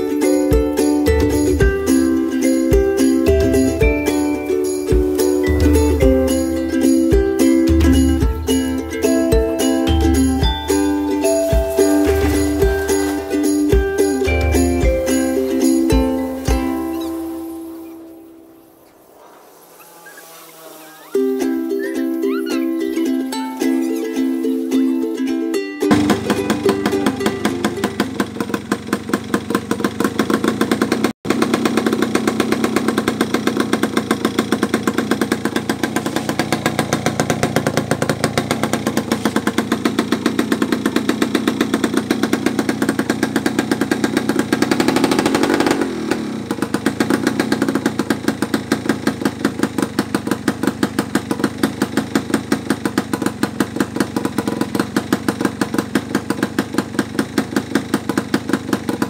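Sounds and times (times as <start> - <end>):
two-stroke engine idling: 0.0 - 19.0, 21.3 - 25.2, 25.8 - 59.0.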